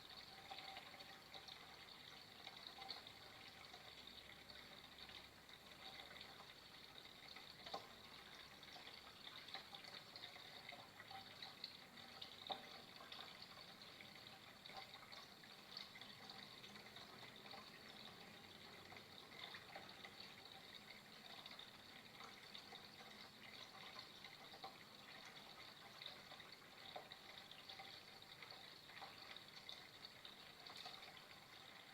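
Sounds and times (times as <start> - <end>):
water drips: 0.0 - 31.9
water trickling: 0.0 - 31.9.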